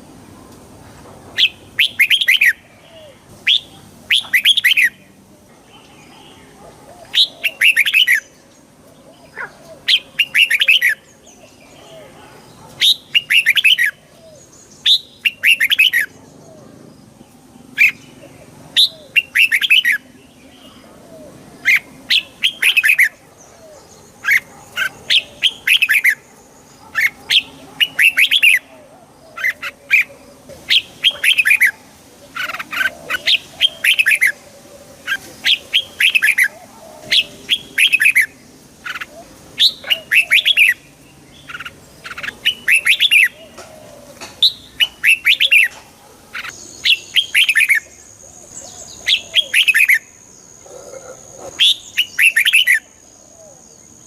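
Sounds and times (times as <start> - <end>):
bulbul singing: 1.4 - 50.5, 51.5 - 54.0.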